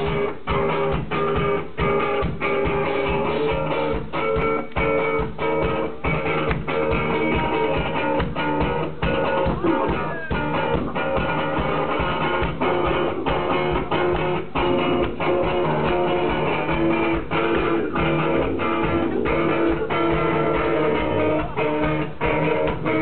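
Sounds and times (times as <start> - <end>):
drum hits: 0.0 - 23.0
electric guitars sustaining: 0.0 - 23.0.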